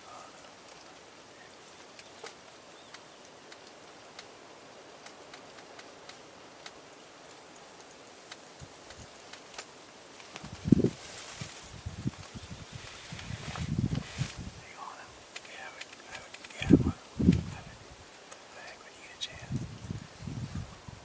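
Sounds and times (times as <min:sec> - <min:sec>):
faint ticks and rustles: 0:00.0 - 0:21.0
steady outdoor hiss: 0:00.0 - 0:21.0.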